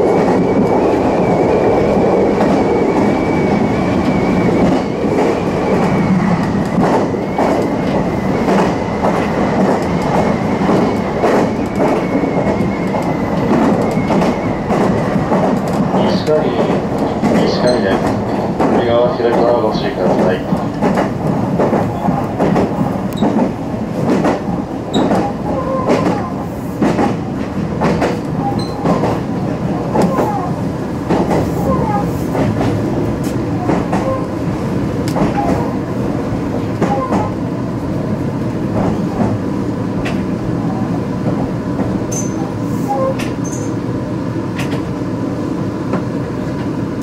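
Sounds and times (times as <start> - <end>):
train rumbling on track: 0.0 - 47.0.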